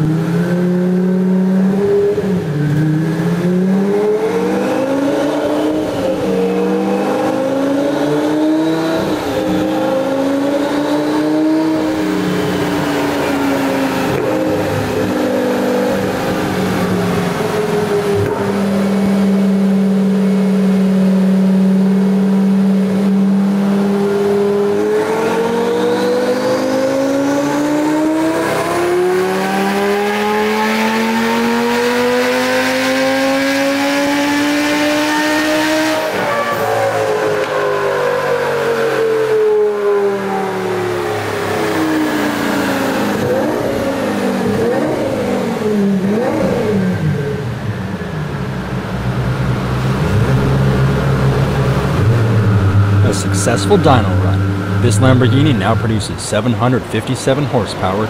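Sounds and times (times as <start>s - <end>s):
car engine revving on dyno: 0.0s - 58.0s.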